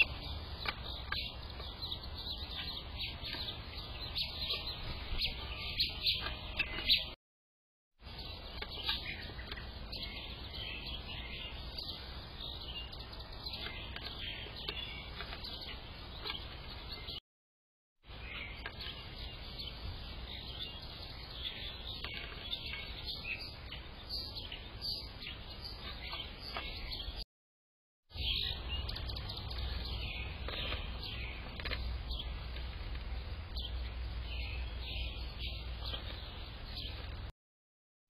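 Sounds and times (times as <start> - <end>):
small birds chirping: 0.0 - 7.2, 8.0 - 17.2, 18.0 - 27.3, 28.1 - 37.3.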